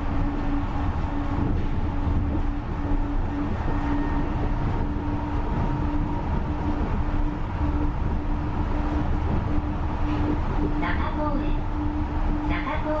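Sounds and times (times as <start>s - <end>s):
train hum: 0.0s - 13.0s.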